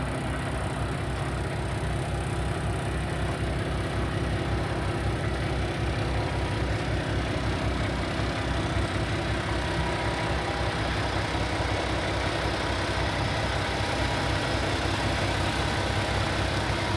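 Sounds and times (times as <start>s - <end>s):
diesel truck engine idling: 0.0s - 16.9s.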